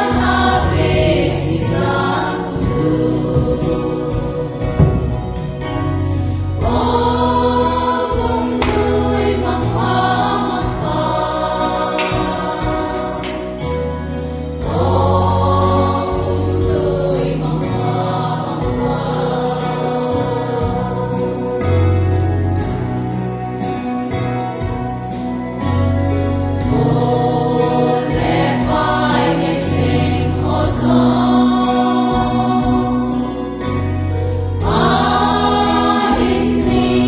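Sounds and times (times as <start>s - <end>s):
women's choir singing gospel: 0.0s - 37.0s.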